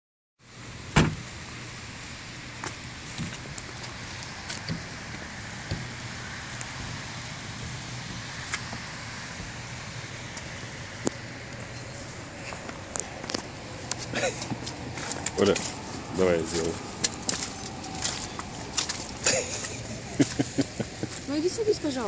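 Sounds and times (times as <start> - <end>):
car engine idling: 0.8 - 22.0.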